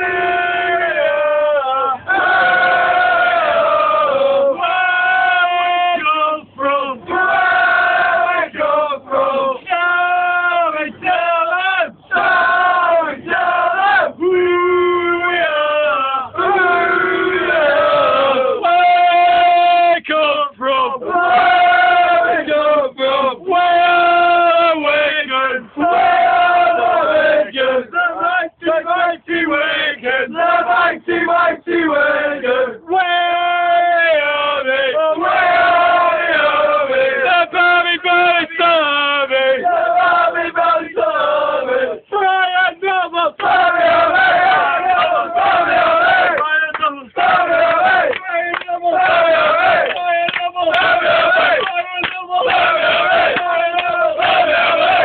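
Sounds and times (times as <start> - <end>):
crowd chanting in unison: 0.0 - 14.2, 15.5 - 20.1, 21.0 - 32.9, 33.6 - 55.0.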